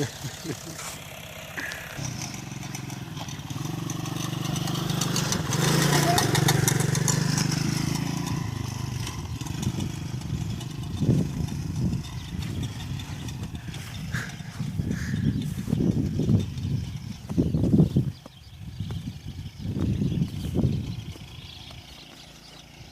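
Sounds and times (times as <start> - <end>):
quad bike engine running: 0.0 - 22.9.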